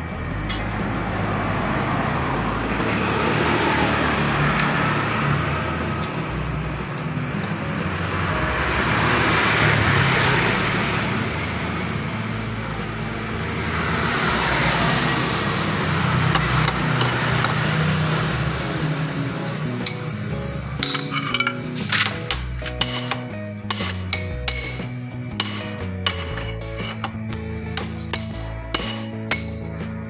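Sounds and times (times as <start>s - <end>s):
vehicle engine noise: 0.0s - 30.0s.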